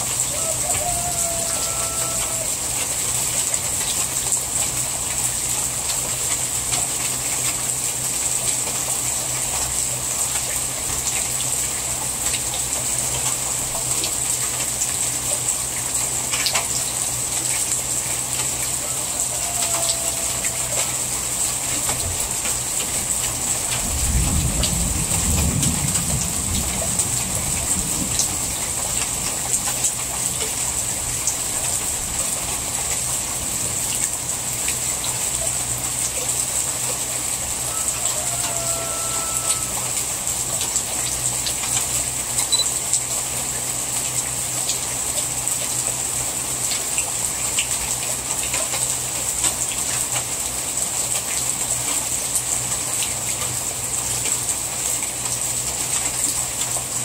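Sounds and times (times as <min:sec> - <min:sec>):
heavy rain falling: 0:00.0 - 0:57.0
water streaming off roof: 0:00.0 - 0:57.0.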